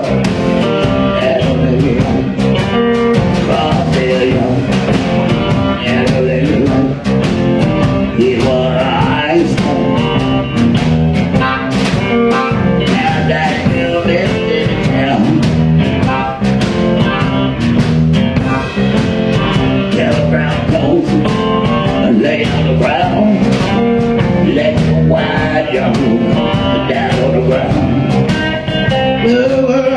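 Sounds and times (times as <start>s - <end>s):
blues band music: 0.0s - 29.9s
guitar: 0.0s - 29.9s
steady drum beat: 0.0s - 29.9s.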